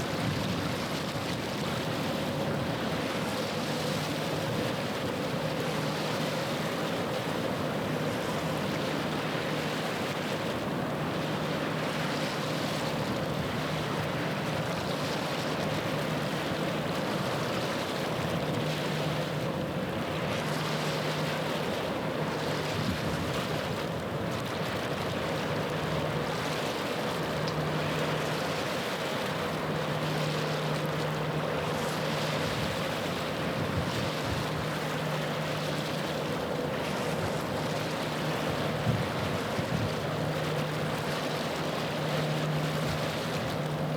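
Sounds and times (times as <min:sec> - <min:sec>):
ship engine drone: 0:00.0 - 0:43.9
water lapping: 0:00.0 - 0:43.9
wind: 0:00.0 - 0:43.9.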